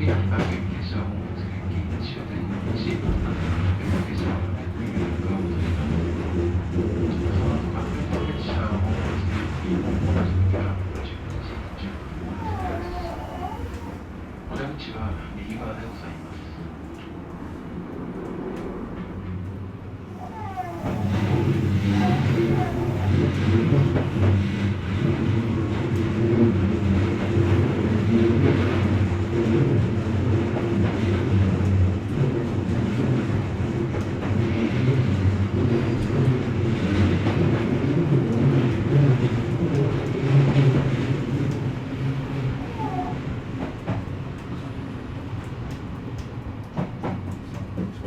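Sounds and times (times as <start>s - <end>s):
train motors and wheels rumbling: 0.0s - 48.0s.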